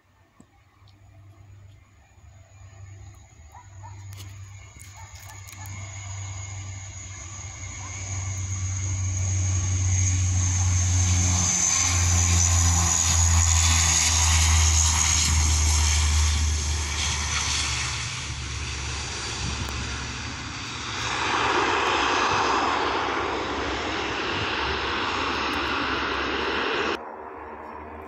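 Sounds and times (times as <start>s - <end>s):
propeller drone: 0.1s - 28.0s
turbine whine: 0.4s - 28.0s
broad rushing noise: 3.9s - 27.0s.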